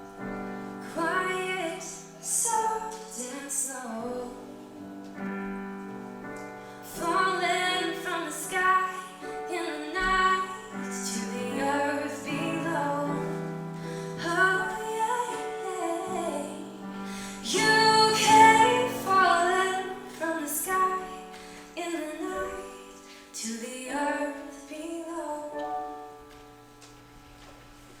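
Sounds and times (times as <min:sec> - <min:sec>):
sustained piano chords: 0:00.0 - 0:28.0
woman singing slow song: 0:00.7 - 0:05.4, 0:06.8 - 0:26.0.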